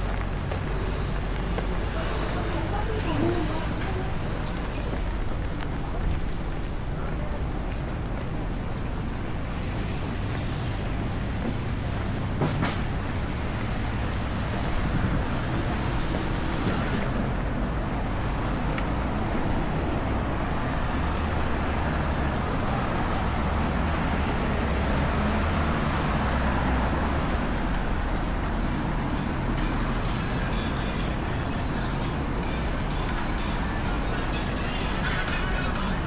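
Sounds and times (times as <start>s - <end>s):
heavy vehicle engine running: 0.0s - 36.0s
wet road noise: 0.0s - 36.0s.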